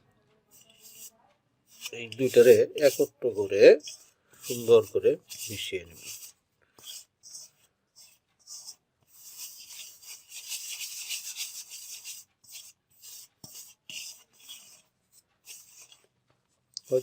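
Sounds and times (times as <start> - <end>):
hands mixing dry crumbs in bowl: 0.5 - 16.0, 16.8 - 17.0.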